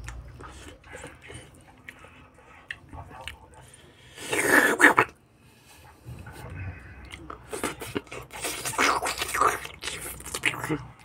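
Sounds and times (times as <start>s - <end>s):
wet chewing clicks: 0.0s - 5.2s, 7.0s - 11.0s.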